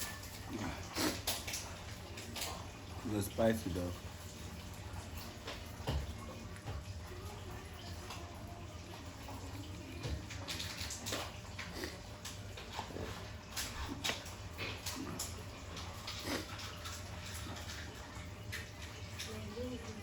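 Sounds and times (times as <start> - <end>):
smacking chewing and slurping: 0.0 - 7.1, 9.0 - 19.5.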